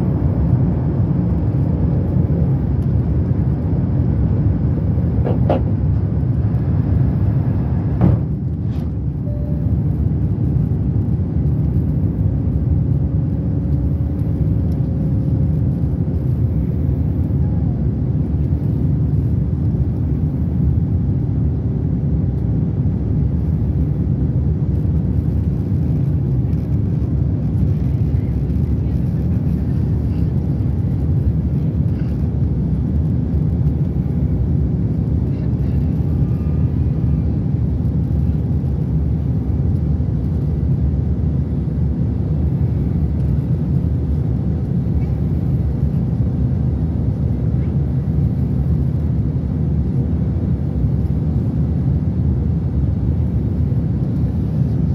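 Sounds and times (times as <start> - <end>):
faint hum: 0.0 - 52.2
deep rumble of aircraft cabin: 0.0 - 54.9.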